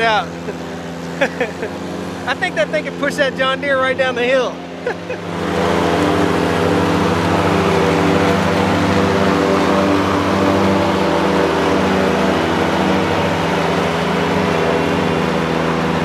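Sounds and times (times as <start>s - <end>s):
mower cutting grass: 0.0s - 16.0s
tractor engine running under load: 0.0s - 16.0s.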